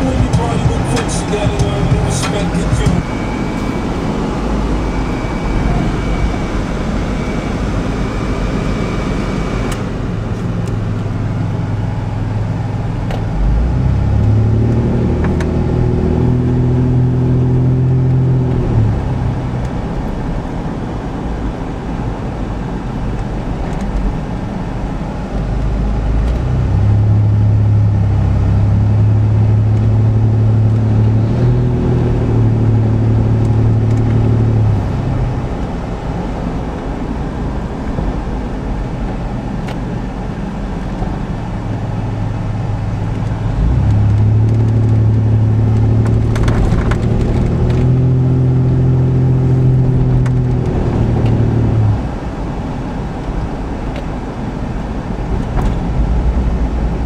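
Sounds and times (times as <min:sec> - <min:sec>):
road rumble: 0:00.0 - 0:57.0
vehicle engine running: 0:00.0 - 0:57.0.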